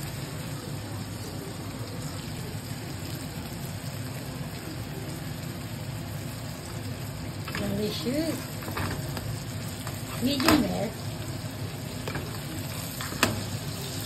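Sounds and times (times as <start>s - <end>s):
steak sizzling in a frying pan: 0.0s - 14.0s.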